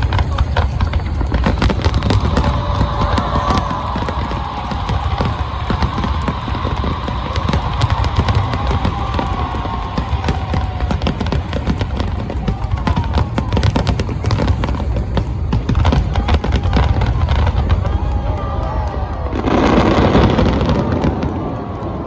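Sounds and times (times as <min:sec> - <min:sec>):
deep rumble of fireworks booms: 0:00.0 - 0:22.0
fireworks cracks and crackles: 0:00.0 - 0:22.0.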